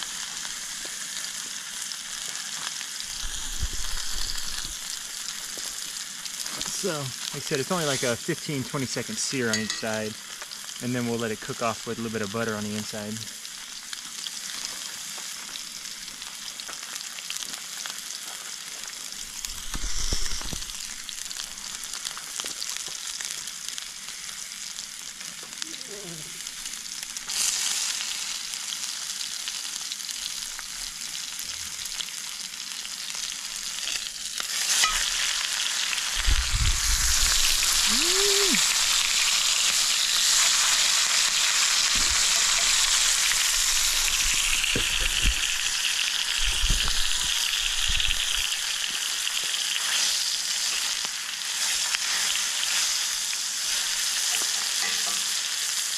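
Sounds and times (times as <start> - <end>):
steak sizzling in oil: 0.0 - 55.9.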